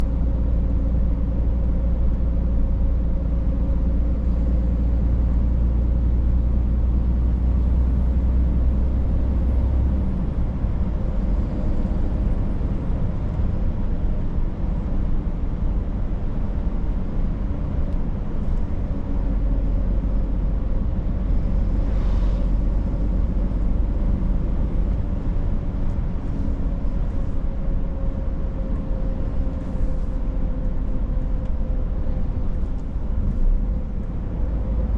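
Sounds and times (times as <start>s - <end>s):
road noise with whine: 0.0s - 34.9s
truck engine rumble: 0.0s - 34.9s.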